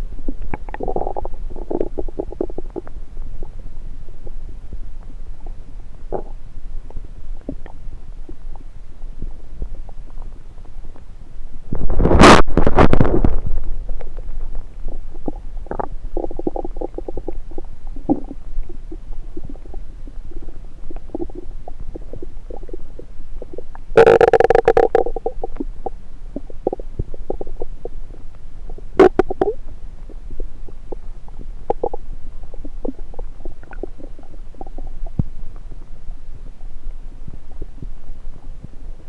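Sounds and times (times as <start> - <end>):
stomach gurgling and rumbling: 0.0 - 39.0.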